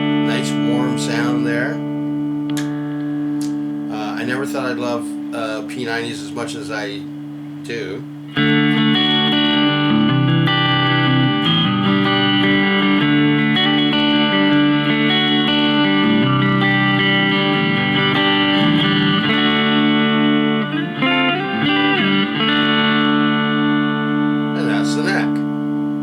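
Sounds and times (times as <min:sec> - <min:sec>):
clean electric guitar: 0:00.0 - 0:26.0.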